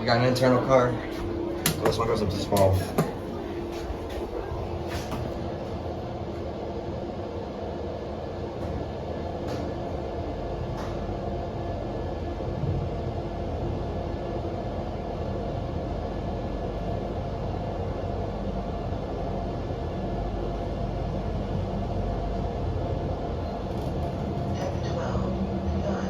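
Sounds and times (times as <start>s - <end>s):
elevator cab rumble and hum: 0.0s - 26.0s.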